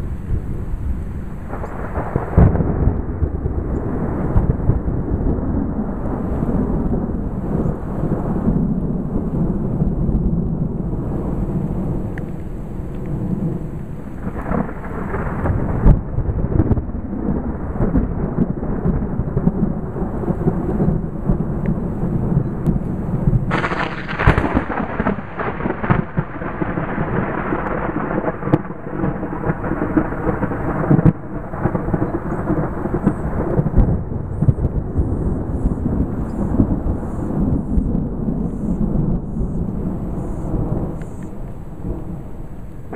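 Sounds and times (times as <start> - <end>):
thunder crack: 0.0 - 42.9
thunder rumbling: 0.0 - 42.9.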